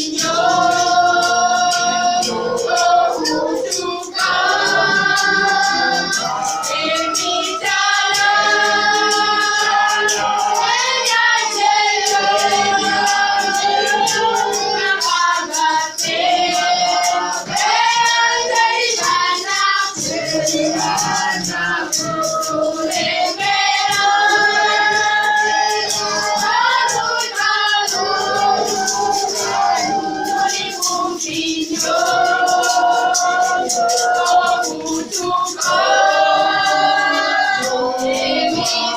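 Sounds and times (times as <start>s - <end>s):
choir singing gospel song: 0.0s - 38.9s
percussion clicking: 0.0s - 38.9s.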